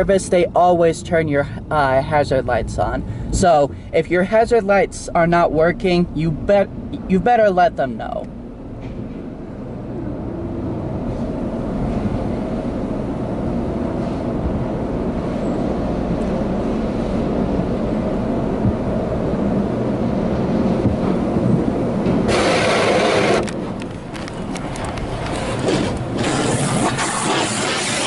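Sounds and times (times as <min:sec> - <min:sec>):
car wash machinery rumble: 0:00.0 - 0:28.0.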